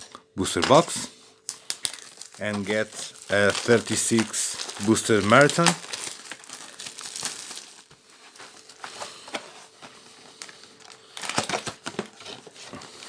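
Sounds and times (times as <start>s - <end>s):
plastic wrap crinkling: 0.5s - 13.0s.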